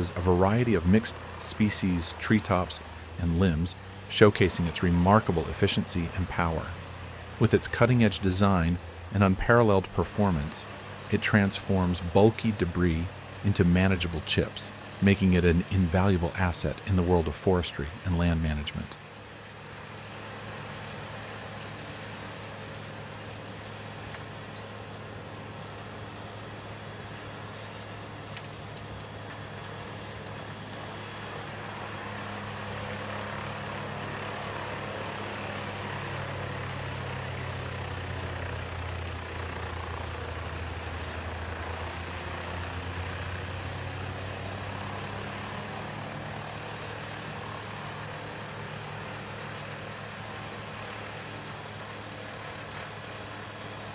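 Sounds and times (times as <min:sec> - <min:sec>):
wood chipper diesel engine drone: 0:00.0 - 0:53.9.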